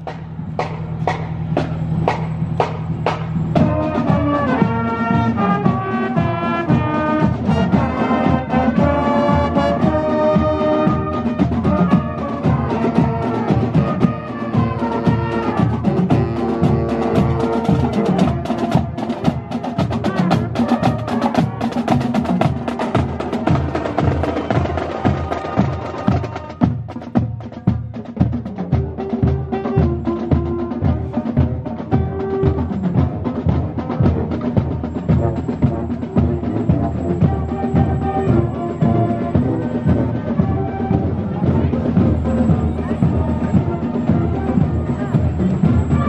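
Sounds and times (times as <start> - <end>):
drumline bass and snare drums: 0.0 - 46.0
marching band brass tune: 0.0 - 46.0.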